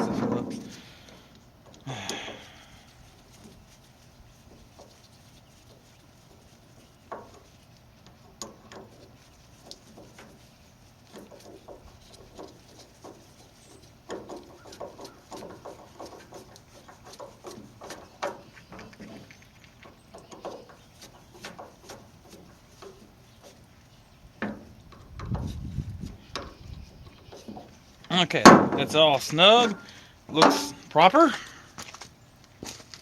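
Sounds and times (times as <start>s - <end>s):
hand tools clicking and scraping: 0.0s - 33.0s.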